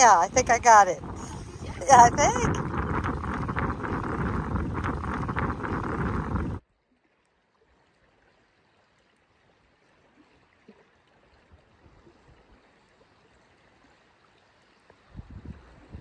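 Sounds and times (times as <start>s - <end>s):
water lapping around feet: 0.0s - 15.8s.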